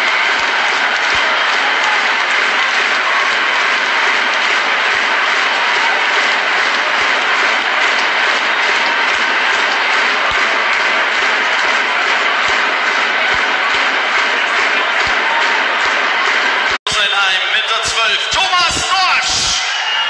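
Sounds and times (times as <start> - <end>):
crowd applauding: 0.0 - 20.0.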